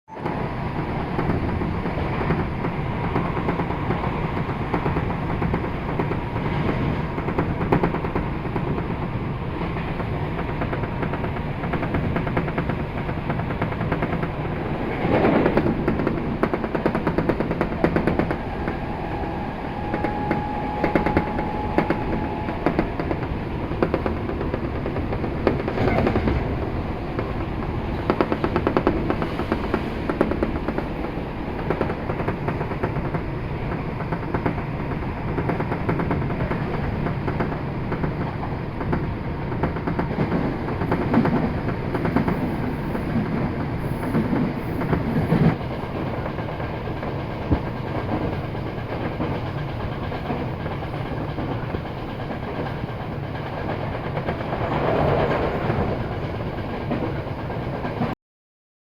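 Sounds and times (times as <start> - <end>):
train rumble and rushing air: 0.1 - 58.2.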